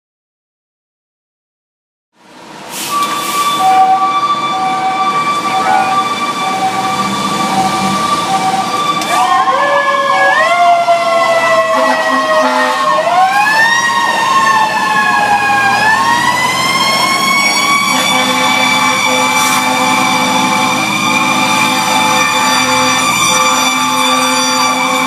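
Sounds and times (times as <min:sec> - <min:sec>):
slow rising and falling siren: 0:02.2 - 0:25.0
fast cycling siren: 0:02.9 - 0:25.0.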